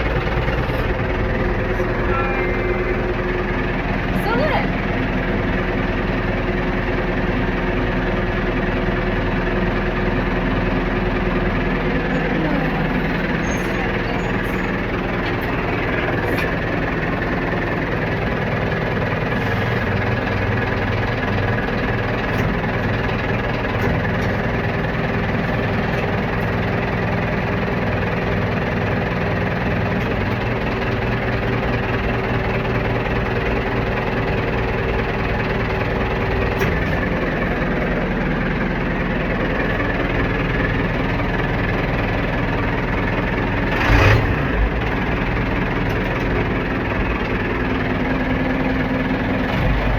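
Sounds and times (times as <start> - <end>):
backhoe engine idling: 0.0 - 49.9.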